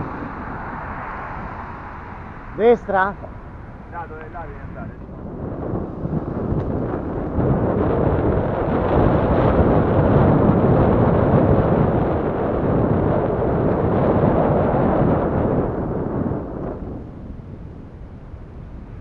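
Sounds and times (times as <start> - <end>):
bike rumbling over trail: 0.0 - 18.6
wind buffeting microphone: 0.0 - 19.0.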